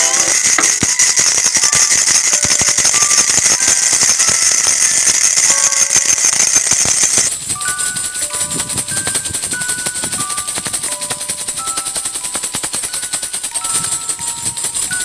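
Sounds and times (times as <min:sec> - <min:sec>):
baby rattle shaken: 0:00.0 - 0:15.0.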